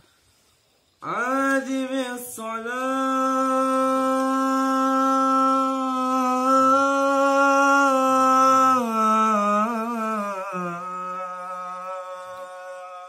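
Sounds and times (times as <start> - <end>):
man chanting: 1.0 - 13.0.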